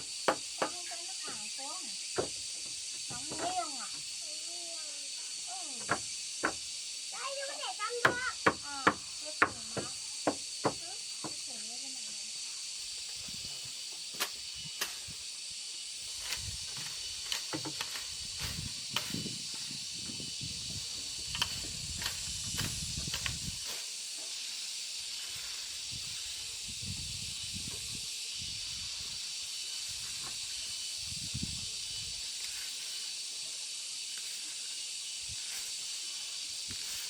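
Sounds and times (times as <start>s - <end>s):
high-pitched hiss with whine: 0.0s - 37.0s.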